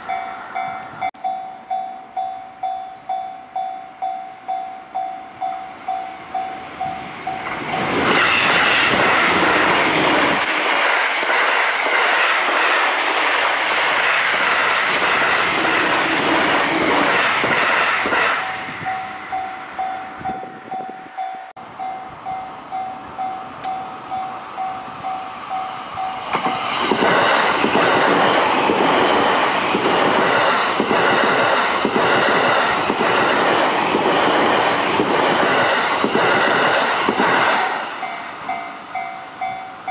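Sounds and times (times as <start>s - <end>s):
train passing with clattering wheels: 0.0s - 39.9s.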